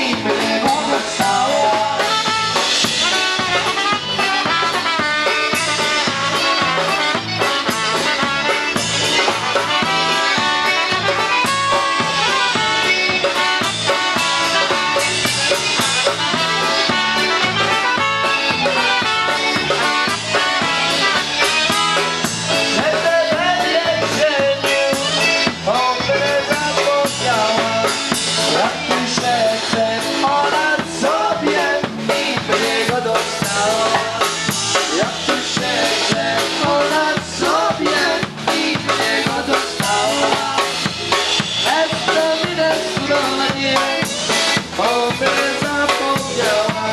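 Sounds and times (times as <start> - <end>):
accordion: 0.0 - 46.9
drum kit beat: 0.0 - 46.9
keyboard: 0.0 - 46.9.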